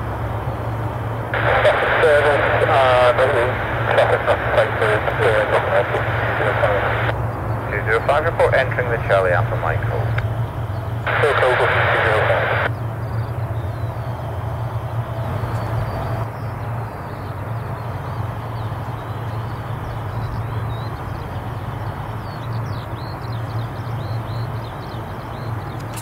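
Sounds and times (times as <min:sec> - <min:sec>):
propeller engines droning: 0:00.0 - 0:26.0.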